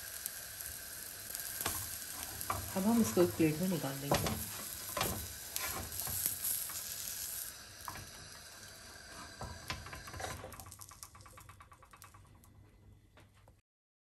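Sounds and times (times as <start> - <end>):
omelette sizzling on griddle: 0.0 - 12.5.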